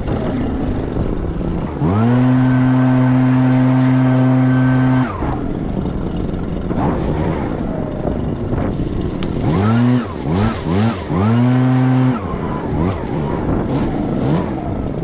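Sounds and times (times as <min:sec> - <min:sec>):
leaf blower engine revving: 0:00.0 - 0:15.0.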